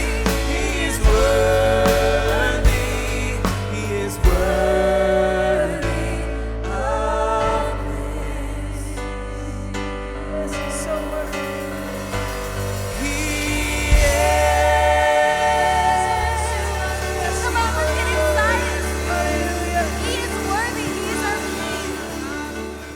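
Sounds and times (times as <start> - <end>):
live band playing held notes: 0.0 - 6.5, 10.0 - 22.9
steady bass: 0.0 - 22.9.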